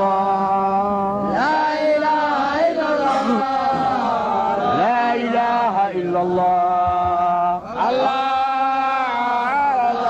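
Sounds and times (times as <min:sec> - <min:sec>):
man chanting unaccompanied: 0:00.0 - 0:10.0.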